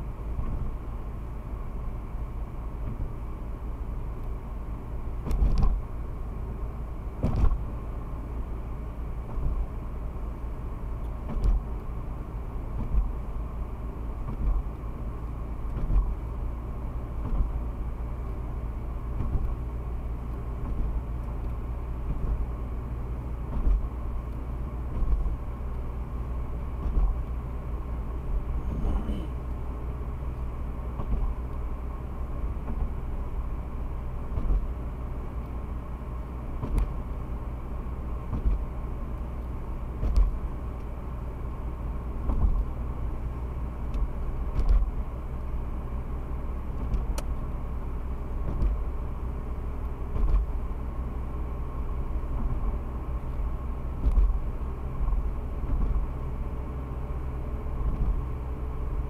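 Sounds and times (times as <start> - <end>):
tyre and road rumble: 0.0 - 59.0.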